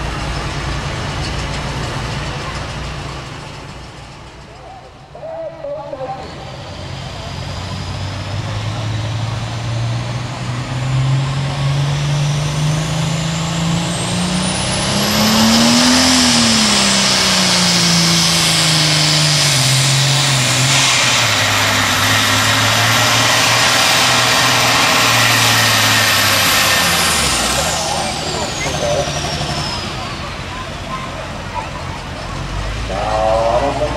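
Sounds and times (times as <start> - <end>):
tractor engine revving: 0.0 - 33.9
turbocharger whine: 3.0 - 33.9.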